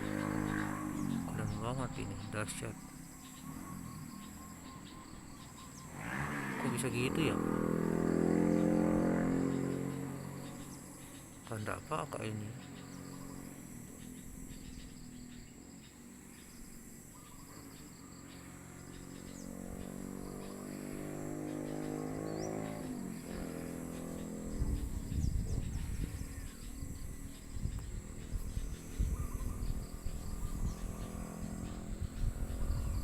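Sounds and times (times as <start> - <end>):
engine passing: 0.0 - 33.0
insects chirring: 0.0 - 33.0.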